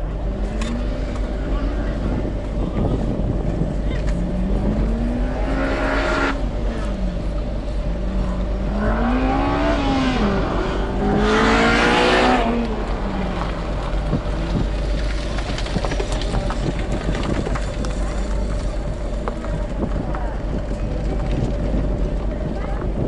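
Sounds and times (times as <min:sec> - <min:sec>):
car engine revving: 0:00.0 - 0:22.2
car engine idling: 0:00.0 - 0:23.0.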